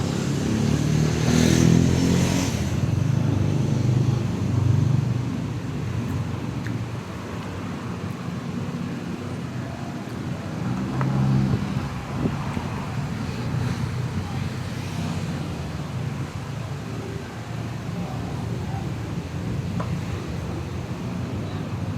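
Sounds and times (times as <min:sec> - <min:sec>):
low rumble of passing vehicles: 0:00.0 - 0:21.9.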